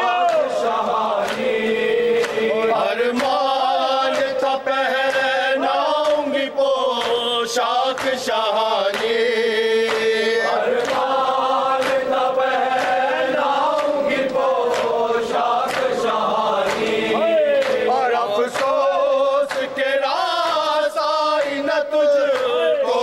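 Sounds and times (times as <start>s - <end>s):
men chanting a lament: 0.0s - 23.0s.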